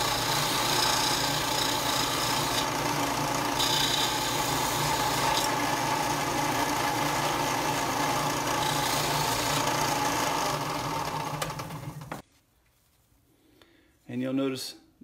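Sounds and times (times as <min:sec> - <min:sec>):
disc sander grinding metal: 0:00.0 - 0:12.2.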